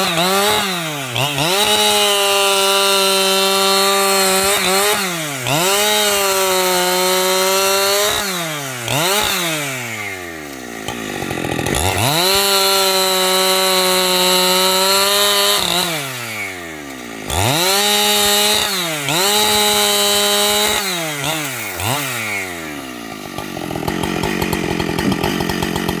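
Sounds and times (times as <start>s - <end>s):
chainsaw sawing through wood: 0.0s - 26.0s.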